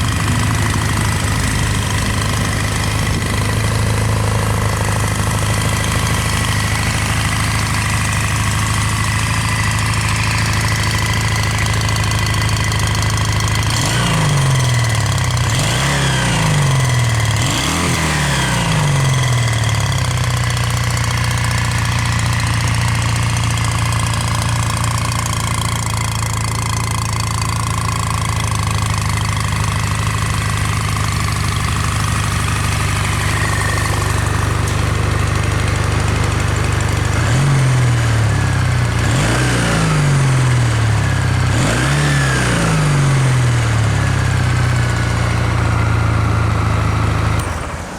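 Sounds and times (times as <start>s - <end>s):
motorcycle throttle blips: 0.0s - 47.6s
motorcycle engine idling: 0.0s - 47.8s.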